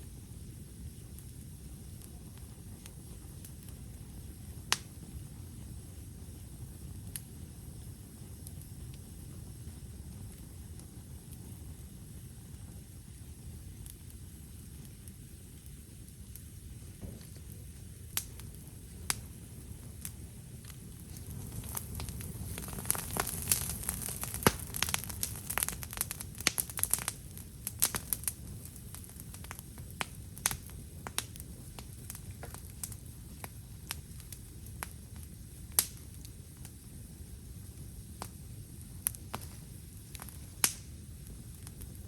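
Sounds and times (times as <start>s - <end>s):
campfire crackling: 0.0s - 42.0s.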